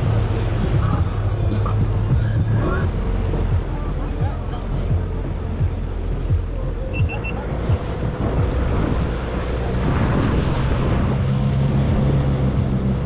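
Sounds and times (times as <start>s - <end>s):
jet ski engine running: 0.0s - 13.0s
water rushing and spraying: 0.0s - 13.0s
wind buffeting microphone: 0.0s - 13.0s.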